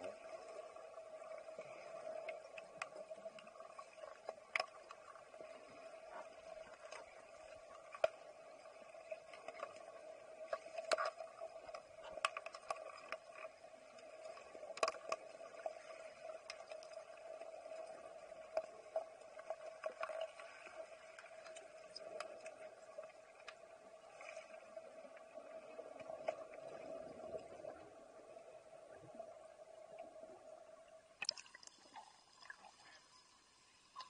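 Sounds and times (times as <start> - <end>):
steady underwater hum: 0.0 - 34.0.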